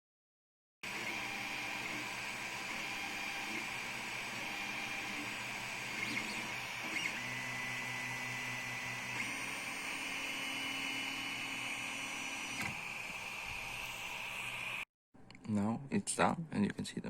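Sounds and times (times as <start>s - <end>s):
stepper motors whining: 0.9s - 14.8s.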